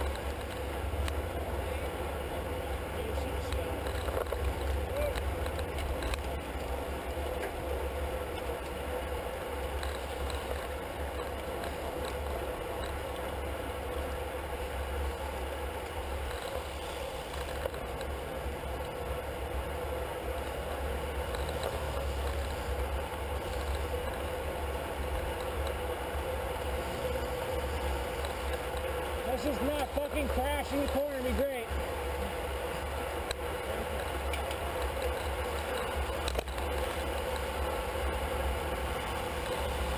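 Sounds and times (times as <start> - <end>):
bicycle tyres and drivetrains hum: 0.0 - 39.9.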